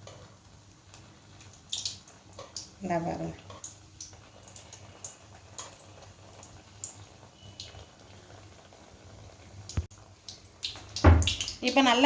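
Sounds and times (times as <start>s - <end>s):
batter sizzling in oil: 0.0s - 12.0s.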